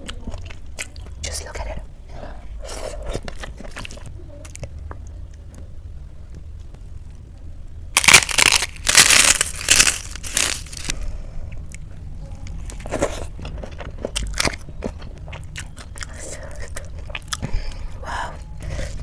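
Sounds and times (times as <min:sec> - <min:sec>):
food crunching: 0:00.0 - 0:01.8, 0:02.6 - 0:05.7, 0:08.0 - 0:19.0.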